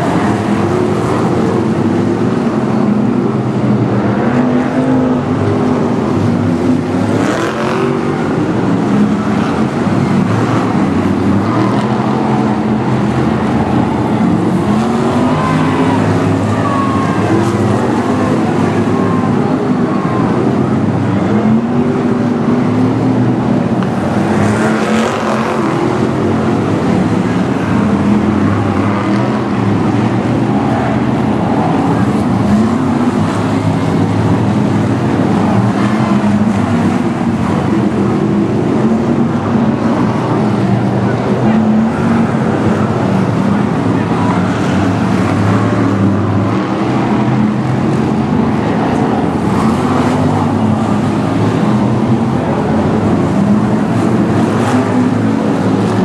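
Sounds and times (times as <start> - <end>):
racing car engines: 0.0 - 56.0.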